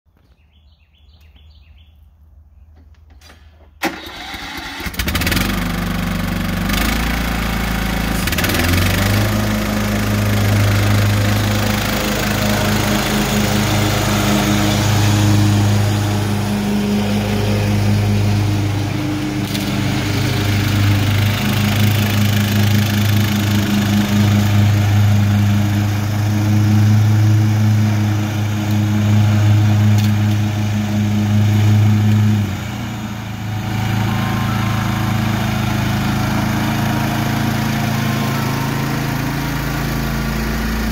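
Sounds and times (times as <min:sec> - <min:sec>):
lawn mower engine running: 0:03.0 - 0:40.9.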